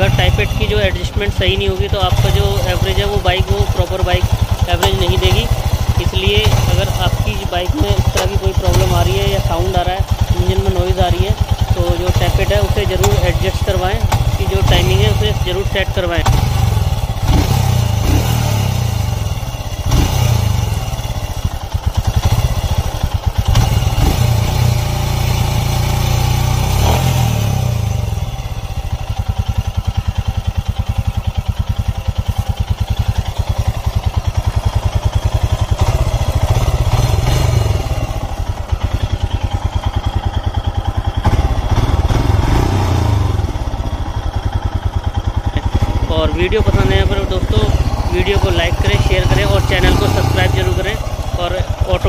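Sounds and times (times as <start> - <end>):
single-cylinder engine idling: 0.0 - 52.0.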